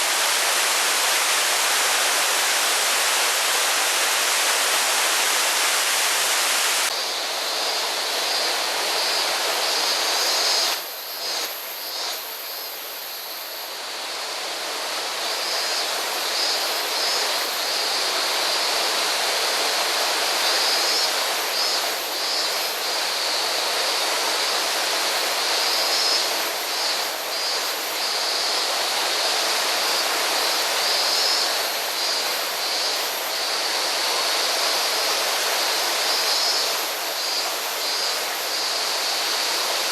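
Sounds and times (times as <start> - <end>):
stream and waterfall rushing: 0.0 - 39.9.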